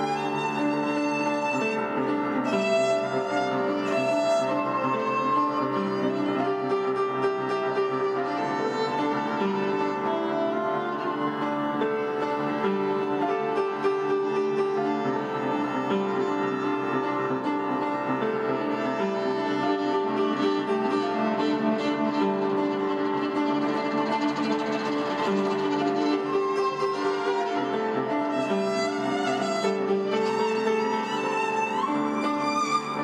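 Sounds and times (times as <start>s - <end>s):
upright piano: 0.0s - 33.0s
violin bowing long notes: 0.0s - 33.0s.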